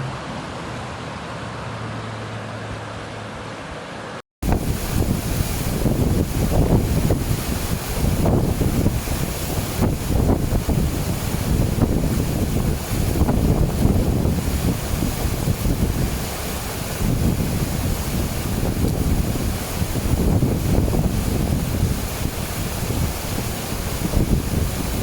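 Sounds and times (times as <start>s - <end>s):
flood water rushing: 4.4s - 25.0s
wind buffeting microphone: 4.4s - 25.0s.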